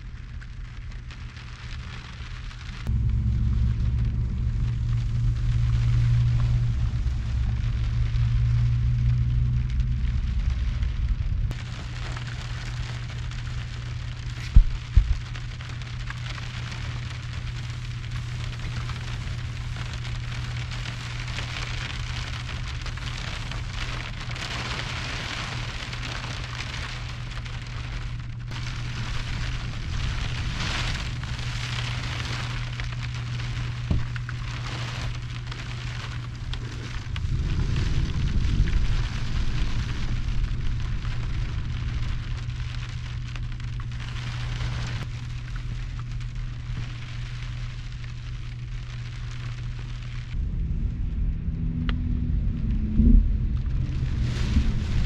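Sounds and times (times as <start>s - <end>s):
heavy rain on truck roof: 0.0s - 50.4s, 53.4s - 55.0s
low rumbling: 0.0s - 55.0s
steady low hum: 0.0s - 55.0s.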